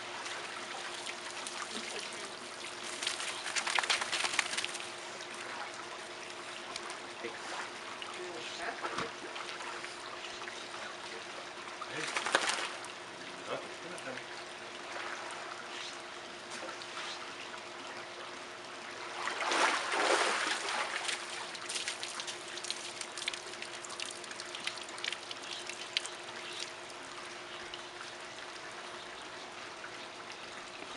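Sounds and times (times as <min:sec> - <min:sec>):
water splashing and lapping: 0:00.0 - 0:13.2, 0:14.5 - 0:29.0
faint steady hum: 0:00.0 - 0:30.9.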